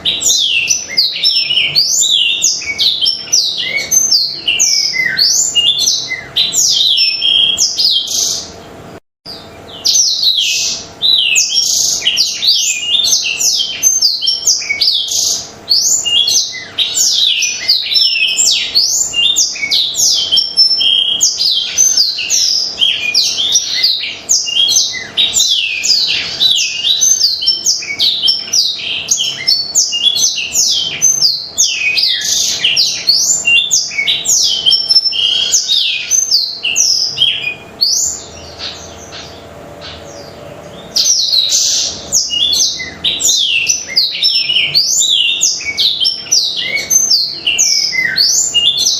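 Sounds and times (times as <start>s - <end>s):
canary singing trilled notes: 0.0s - 48.9s.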